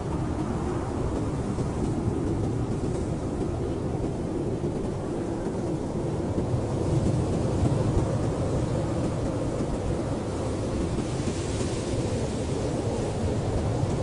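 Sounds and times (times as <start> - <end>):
blizzard wind blowing hard: 0.0 - 14.0.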